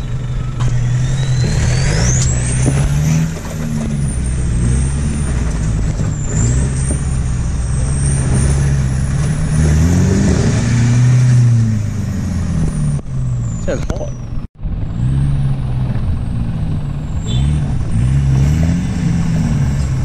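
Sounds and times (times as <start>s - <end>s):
diesel engine labouring: 0.0s - 20.0s.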